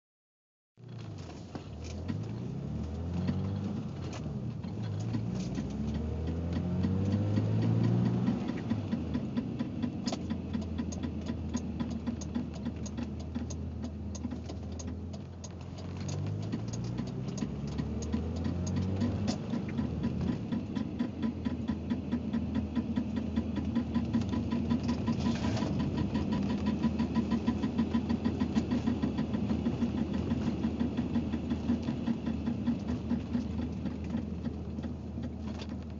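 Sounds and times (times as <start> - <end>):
car engine revving: 0.8 - 35.9
rapid steady clicking: 3.2 - 35.9.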